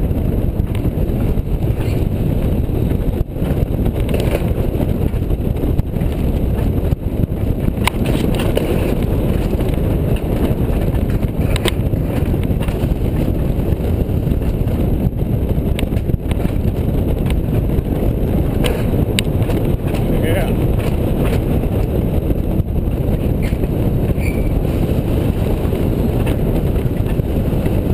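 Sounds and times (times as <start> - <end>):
coaster wheels rumbling on rail: 0.0 - 27.9
wind on microphone: 0.0 - 27.9.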